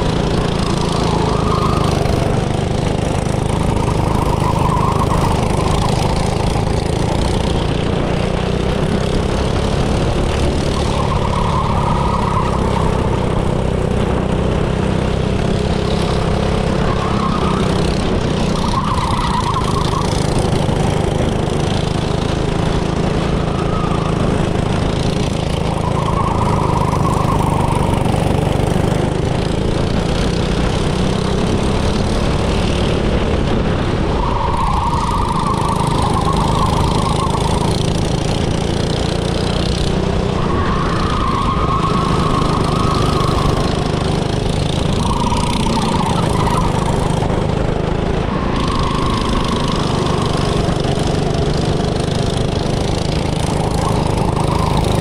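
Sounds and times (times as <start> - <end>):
go-kart engines running: 0.0 - 55.0
kart engine revving: 0.0 - 55.0.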